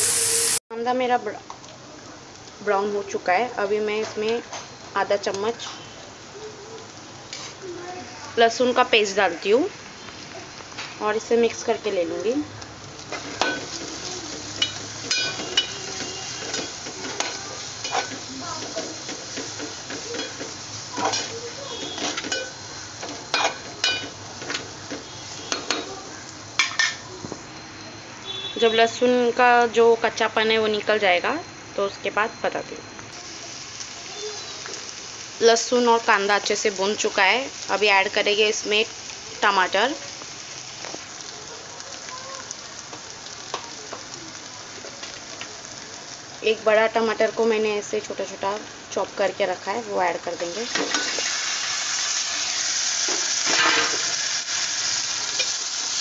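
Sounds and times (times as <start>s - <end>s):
food sizzling in hot oil: 0.0s - 56.0s
onions frying in a pot: 0.0s - 56.0s.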